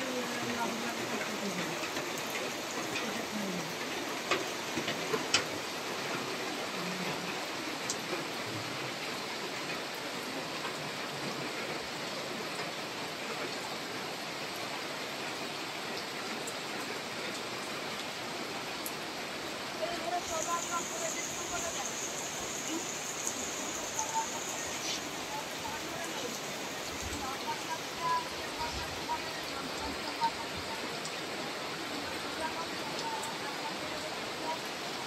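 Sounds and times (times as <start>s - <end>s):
steady rain hissing: 0.0s - 35.0s.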